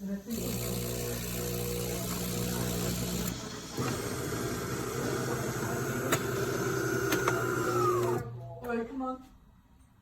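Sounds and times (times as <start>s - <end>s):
espresso machine humming: 0.2s - 8.3s.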